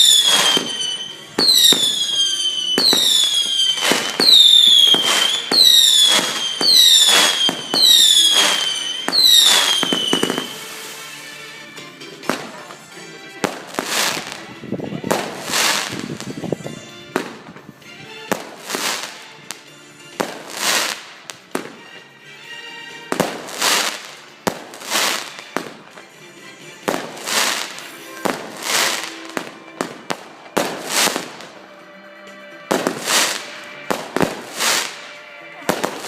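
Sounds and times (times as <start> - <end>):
fireworks bursting and crackling: 0.0 - 21.8, 23.1 - 26.2, 26.8 - 31.7, 32.6 - 36.0
music playing: 0.0 - 36.0.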